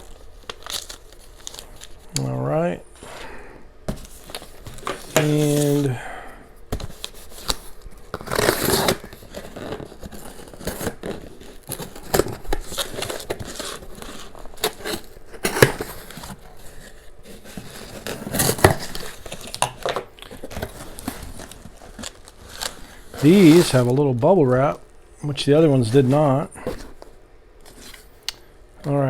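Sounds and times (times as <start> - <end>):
plastic packaging crinkling: 0.0 - 6.0, 6.6 - 24.9.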